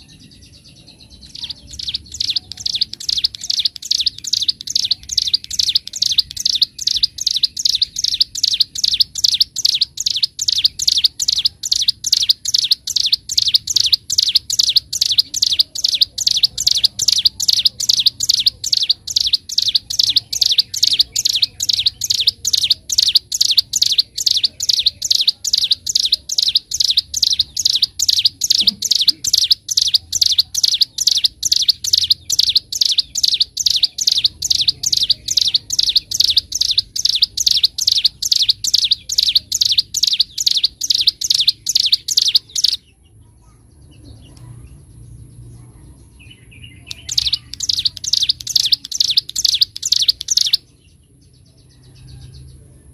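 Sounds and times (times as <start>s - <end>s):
bird singing high chattering notes: 0.0s - 43.2s, 46.2s - 52.5s.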